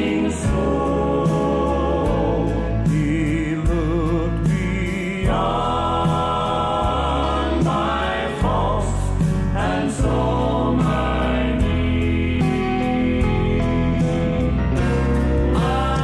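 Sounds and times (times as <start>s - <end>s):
worship song with band: 0.0s - 16.0s.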